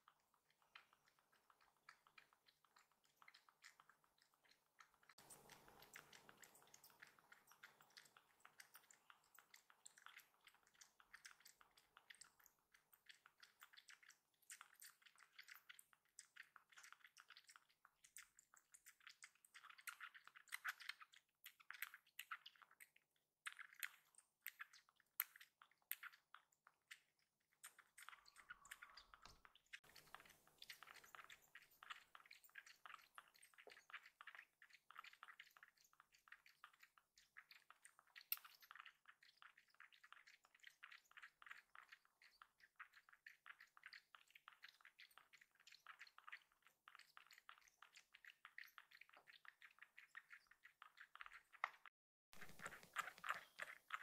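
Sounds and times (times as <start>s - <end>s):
kitten suckling from bottle: 0.0s - 54.0s.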